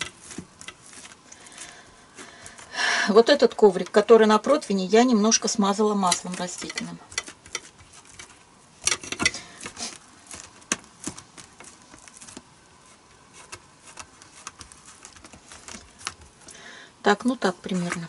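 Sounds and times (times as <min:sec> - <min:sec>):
hands patting dough: 0:00.0 - 0:16.5.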